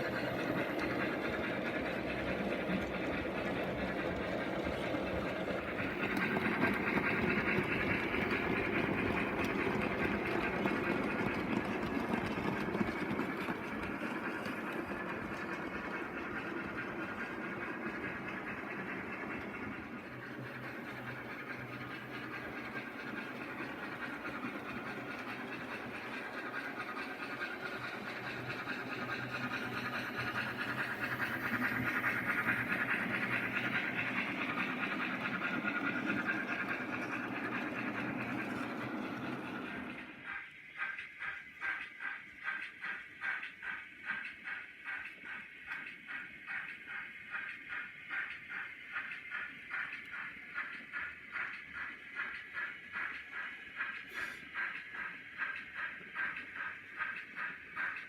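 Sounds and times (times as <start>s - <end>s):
model train motor whirring on rails: 0.0s - 58.0s.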